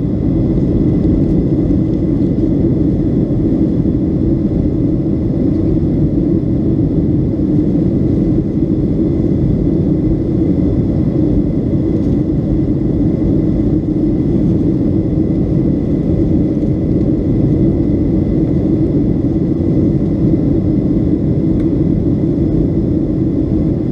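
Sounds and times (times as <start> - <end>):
airliner cabin roar: 0.0 - 23.9.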